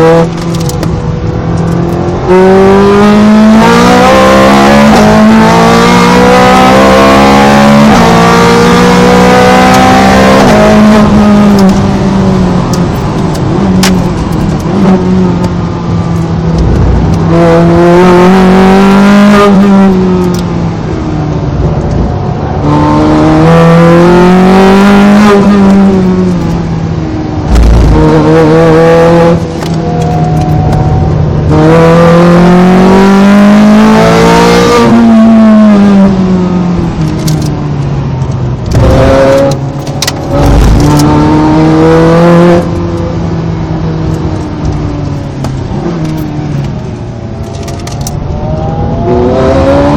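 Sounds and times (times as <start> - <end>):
sports car engine revving: 0.0 - 20.7, 22.6 - 37.5, 38.5 - 43.2, 45.5 - 49.9.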